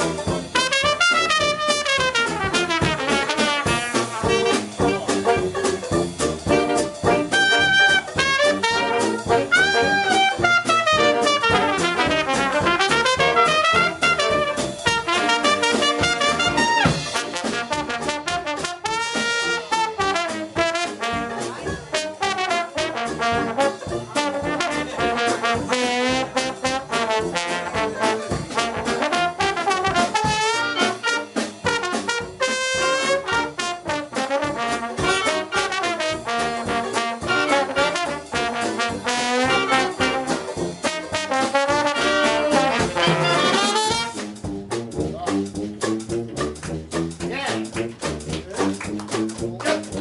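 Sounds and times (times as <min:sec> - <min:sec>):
dixieland jazz band playing: 0:00.0 - 0:50.0.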